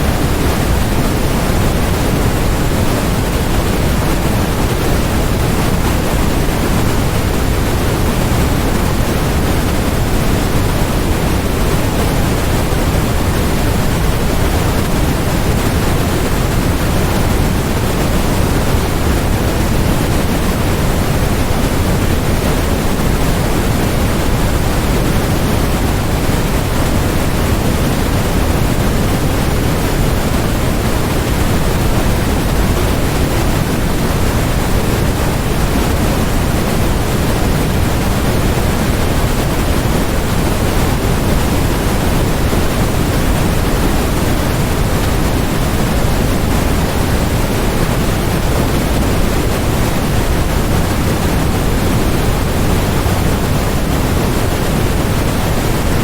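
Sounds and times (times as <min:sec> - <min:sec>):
steady generated noise: 0:00.0 - 0:56.0.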